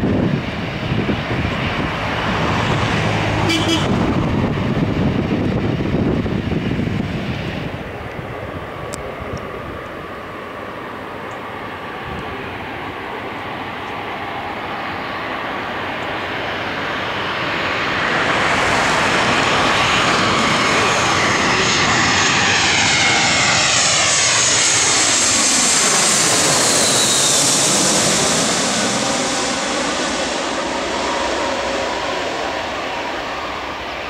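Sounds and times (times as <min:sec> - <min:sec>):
jet airliner passing overhead: 0:00.0 - 0:34.0.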